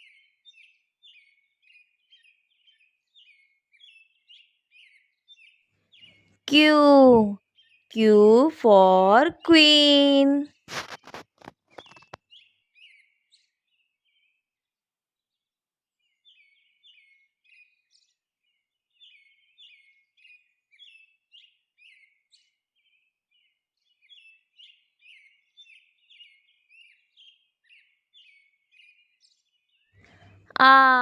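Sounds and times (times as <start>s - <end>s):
faint birdsong chirps: 0.0s - 8.2s, 11.8s - 14.4s, 16.0s - 31.0s.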